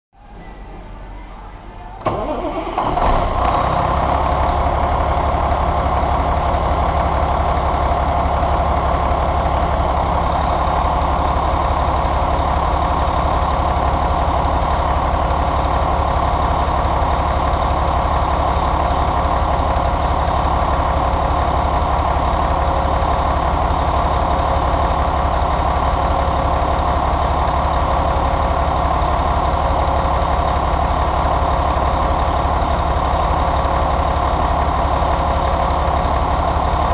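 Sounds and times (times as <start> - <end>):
diesel engine idling: 0.2 - 36.9.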